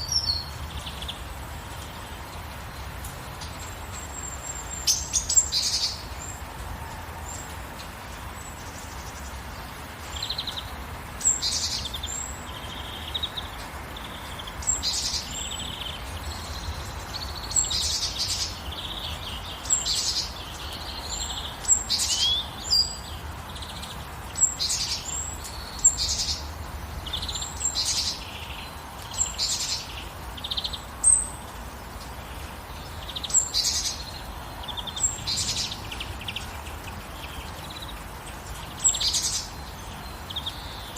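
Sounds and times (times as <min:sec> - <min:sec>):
birds chirping: 0:00.0 - 0:40.9
gentle rain hiss: 0:00.0 - 0:40.9.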